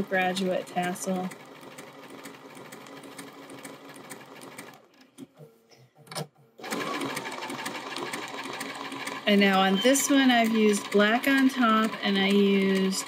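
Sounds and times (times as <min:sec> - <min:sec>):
sewing machine running: 0:00.0 - 0:04.8, 0:06.6 - 0:13.0.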